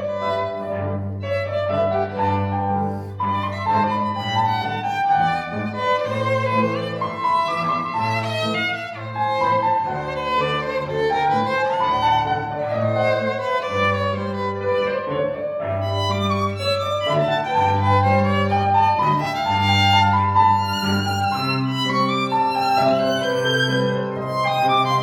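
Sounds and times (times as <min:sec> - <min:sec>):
cello held low notes: 0:00.0 - 0:25.0
violin melody: 0:00.0 - 0:25.0.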